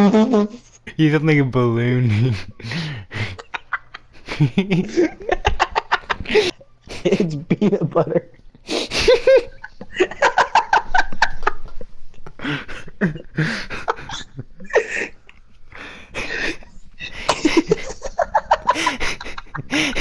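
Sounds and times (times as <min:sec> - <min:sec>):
people laughing: 0:02.0 - 0:08.0, 0:08.7 - 0:15.4, 0:16.1 - 0:20.0.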